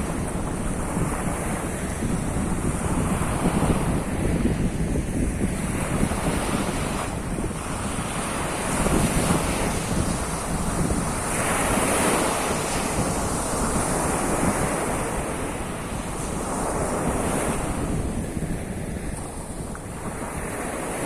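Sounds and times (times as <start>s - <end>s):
surf washing onto shore: 0.0s - 21.0s
wind buffeting microphone: 0.0s - 21.0s.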